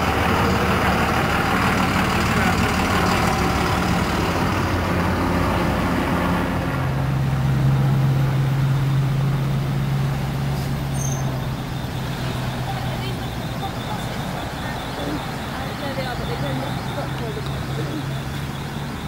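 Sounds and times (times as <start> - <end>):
heavy vehicle engine droning: 0.0 - 19.0.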